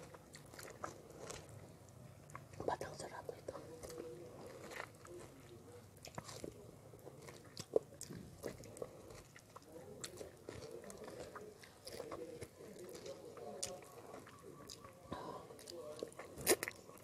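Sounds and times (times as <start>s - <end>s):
person eating wet chewing: 0.0s - 2.7s, 3.5s - 17.0s.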